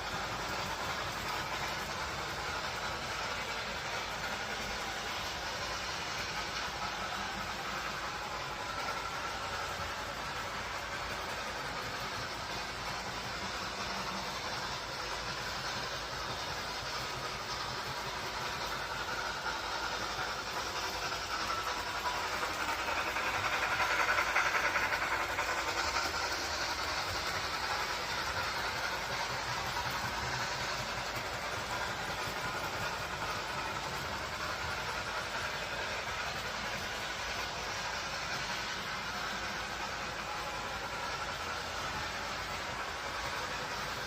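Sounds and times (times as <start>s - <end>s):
train rolling and rattling: 0.0s - 44.0s.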